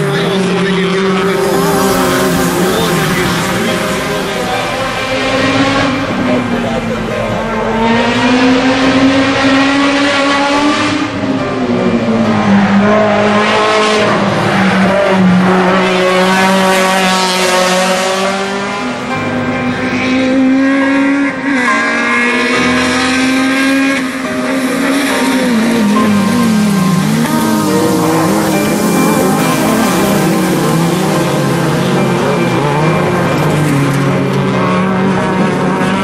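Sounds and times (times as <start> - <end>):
race car engines revving: 0.0 - 36.0.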